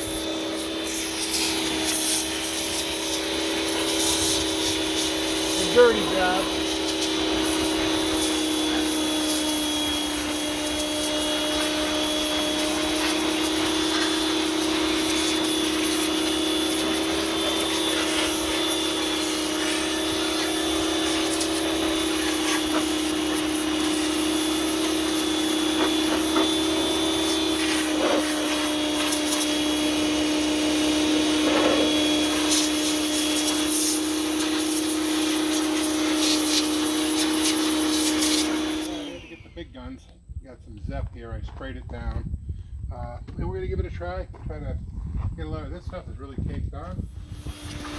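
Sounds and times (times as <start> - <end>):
water jet hissing: 0.0 - 39.4, 47.0 - 47.9
pressure washer motor whine: 0.0 - 39.9, 47.0 - 47.9.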